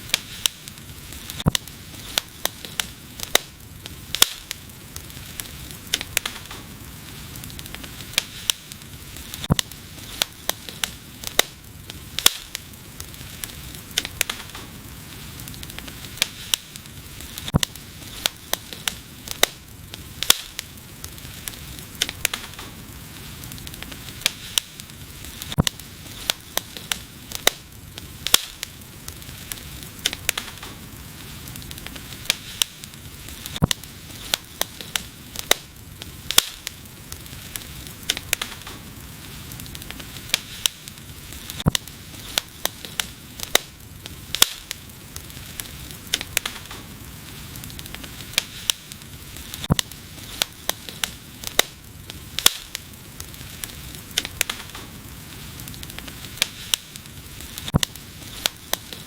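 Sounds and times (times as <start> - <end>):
soft hiss of burning logs: 0.0 - 59.0
wood fire crackling: 0.0 - 59.0.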